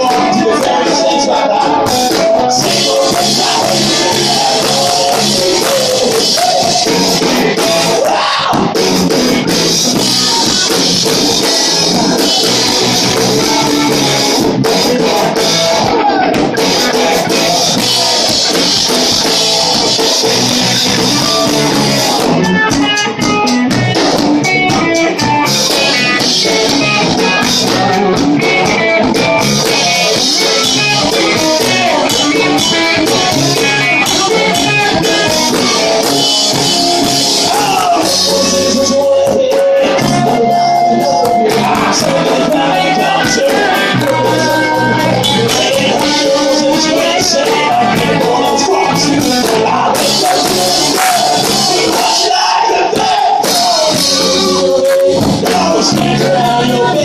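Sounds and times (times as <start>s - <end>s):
live rock band: 0.0s - 57.0s
picked guitar notes: 0.0s - 57.0s.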